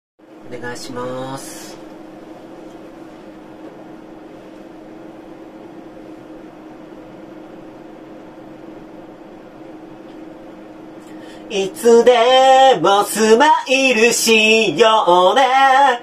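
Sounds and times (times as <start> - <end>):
room noise hum and hiss: 0.2 - 16.0.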